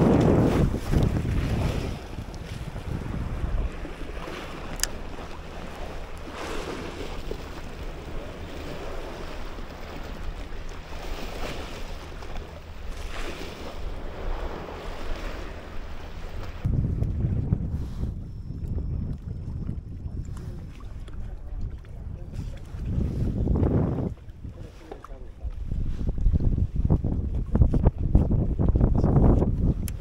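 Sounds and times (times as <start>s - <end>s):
small waves lapping: 0.0s - 17.2s, 18.0s - 27.8s
wind rumble on microphone: 0.0s - 30.0s.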